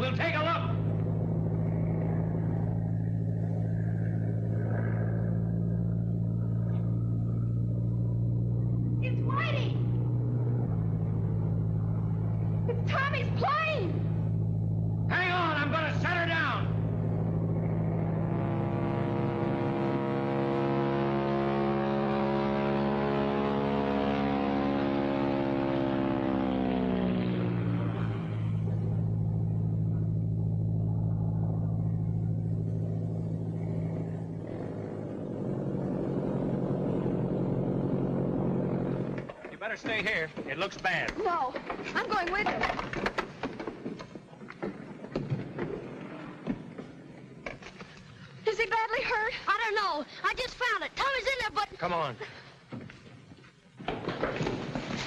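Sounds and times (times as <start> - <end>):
propeller aircraft engine droning: 0.0 - 55.0.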